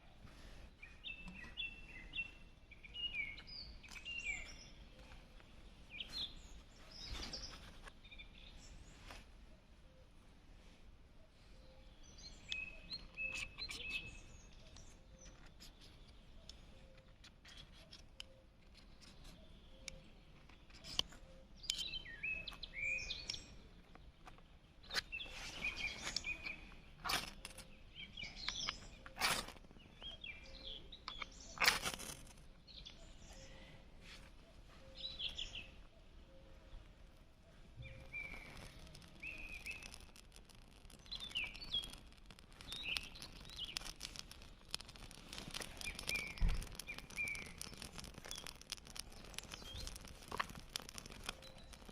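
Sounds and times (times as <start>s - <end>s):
small birds chirping: 0.0s - 51.9s
sharp crackles and snaps: 0.3s - 9.3s, 11.8s - 51.9s.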